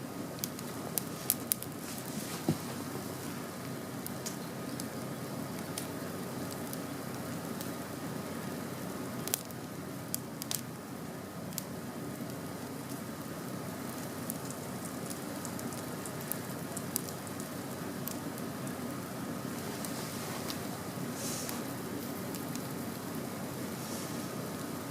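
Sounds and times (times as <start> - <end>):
campfire hissing: 0.0 - 24.9
wood crackling and popping: 0.0 - 24.9.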